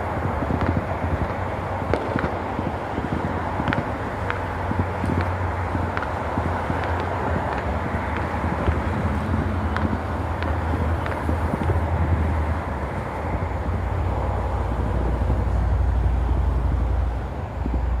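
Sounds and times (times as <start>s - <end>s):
distant fireworks popping: 0.0s - 18.0s
low outdoor rumble: 0.0s - 18.0s.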